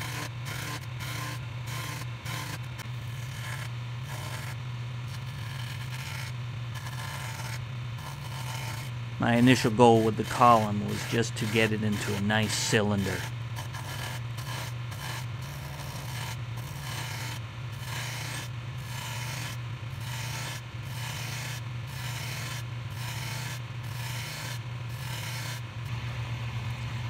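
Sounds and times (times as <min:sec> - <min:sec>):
lathe tool cutting wood: 0:00.0 - 0:26.3
lathe motor hum: 0:00.0 - 0:27.0.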